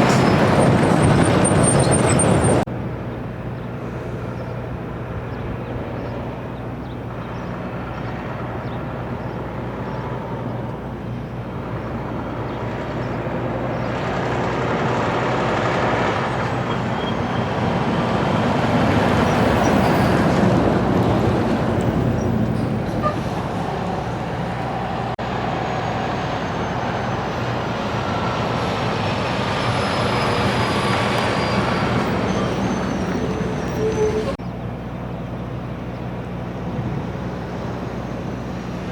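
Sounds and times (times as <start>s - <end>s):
truck passing: 0.0s - 5.3s, 6.0s - 34.4s
traffic engine drone: 0.0s - 38.9s.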